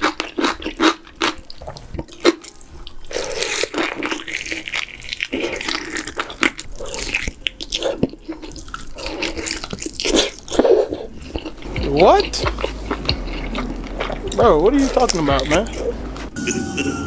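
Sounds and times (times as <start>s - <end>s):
wet eating slurps and smacks: 0.0s - 16.3s.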